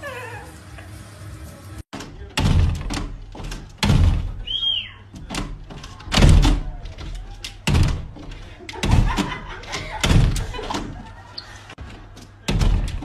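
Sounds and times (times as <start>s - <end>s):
glass door banging and rattling: 1.9s - 13.0s.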